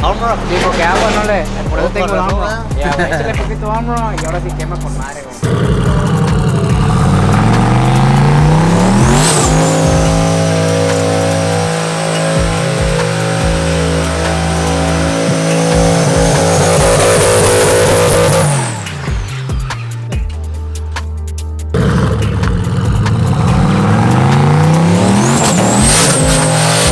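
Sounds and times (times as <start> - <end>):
tires squealing: 0.0 - 20.2, 21.7 - 26.9
truck engine revving: 0.0 - 26.9.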